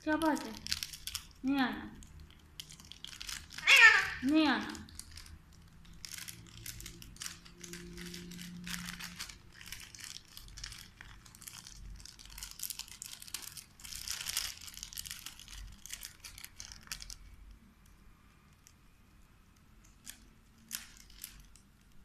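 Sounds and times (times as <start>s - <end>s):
parakeets crinkling snack wrapper: 0.0s - 18.8s, 19.8s - 22.0s.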